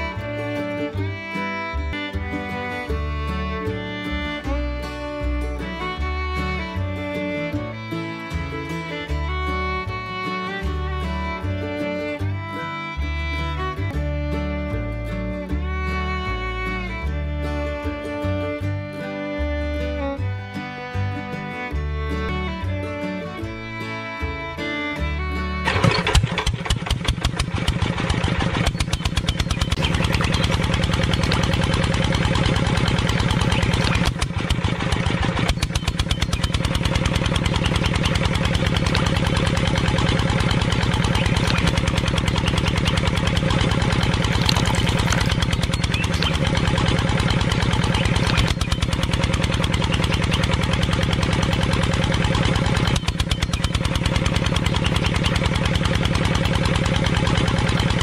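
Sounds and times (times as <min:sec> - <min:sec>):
miniature engine running: 0:00.0 - 0:14.3, 0:23.2 - 0:58.0.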